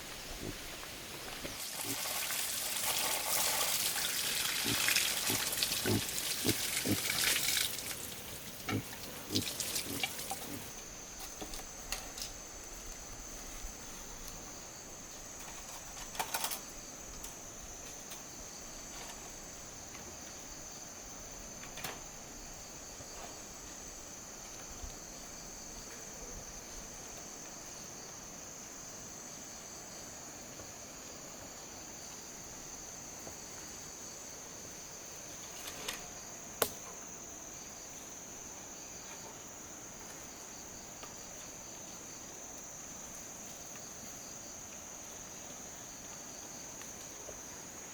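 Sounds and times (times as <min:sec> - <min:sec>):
insect chorus: 0:00.0 - 0:47.9.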